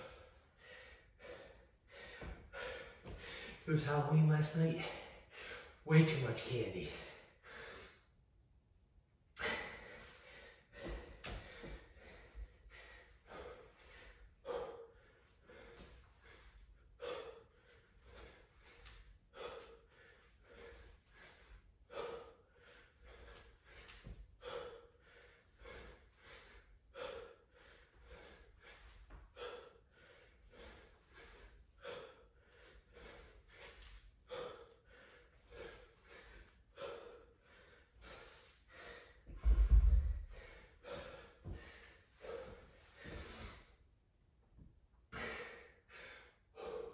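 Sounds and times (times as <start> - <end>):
man breathing hard: 0.0 - 3.7, 4.8 - 5.8, 6.9 - 8.3, 9.3 - 44.0, 45.0 - 46.9.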